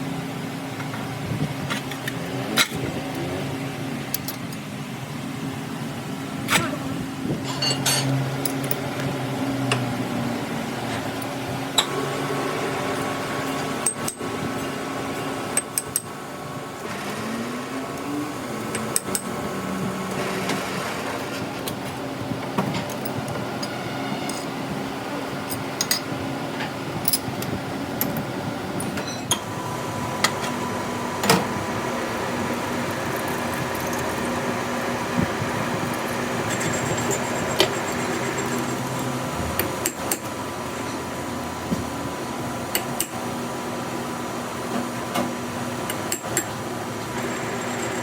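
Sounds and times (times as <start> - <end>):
machine humming: 5.4 - 48.0.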